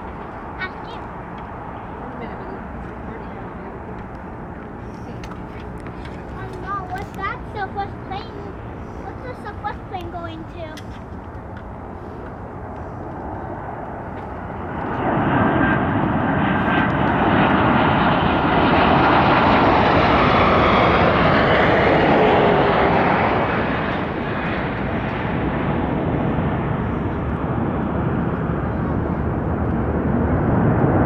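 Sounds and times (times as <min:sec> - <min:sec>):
jet aircraft engine: 0:00.0 - 0:31.0.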